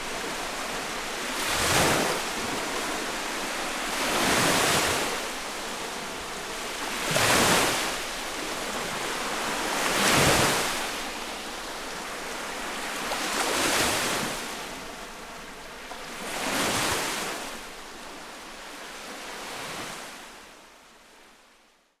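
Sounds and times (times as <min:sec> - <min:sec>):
waves washing onto shore: 0:00.0 - 0:20.5.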